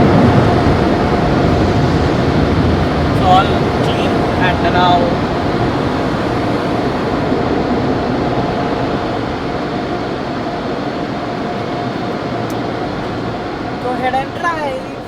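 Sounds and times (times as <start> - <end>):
dryer blowers rushing air: 0.0 - 15.0.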